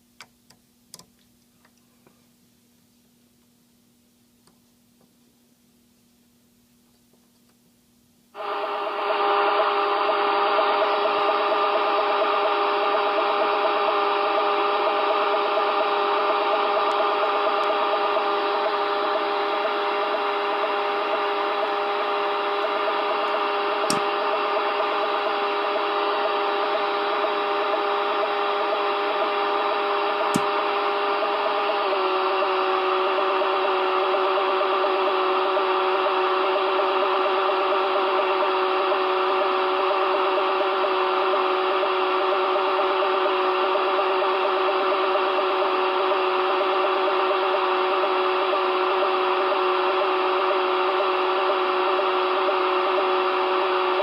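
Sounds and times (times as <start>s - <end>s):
radio hiss: 8.4s - 54.0s
steady radio tones: 8.4s - 54.0s.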